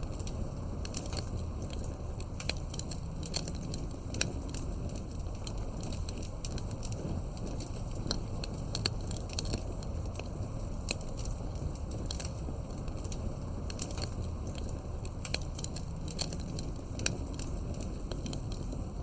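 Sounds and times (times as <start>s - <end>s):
low rumble of flame: 0.0s - 19.0s
wood crackling and popping: 0.0s - 19.0s.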